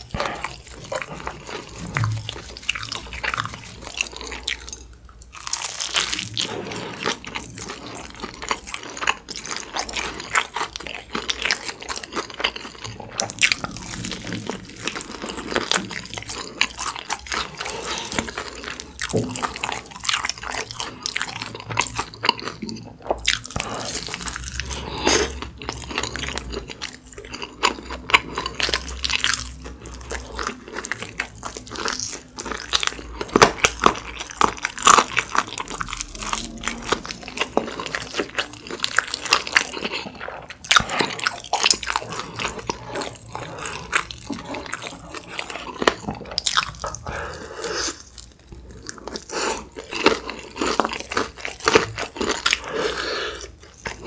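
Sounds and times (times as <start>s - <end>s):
crunching and chewing fried chicken: 0.0s - 54.0s.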